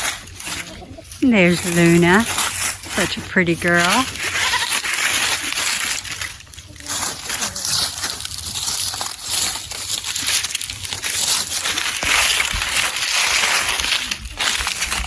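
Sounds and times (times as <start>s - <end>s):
crunching and rustling: 0.0s - 15.0s.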